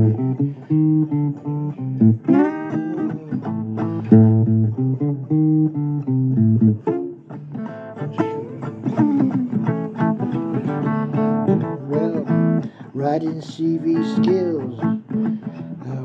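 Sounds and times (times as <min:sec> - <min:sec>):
blues guitar plucked notes: 0:00.0 - 0:16.0.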